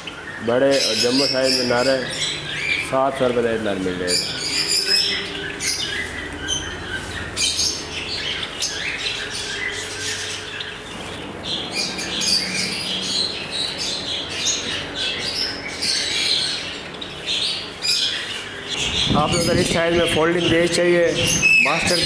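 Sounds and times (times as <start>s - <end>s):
caged birds chirping and squawking: 0.0s - 22.0s.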